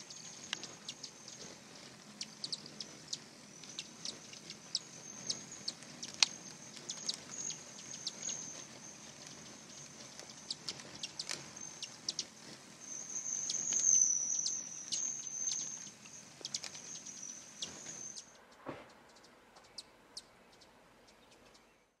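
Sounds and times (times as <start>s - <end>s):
hummingbird wings buzzing: 0.0s - 18.3s
hummingbird chirps: 0.0s - 18.4s.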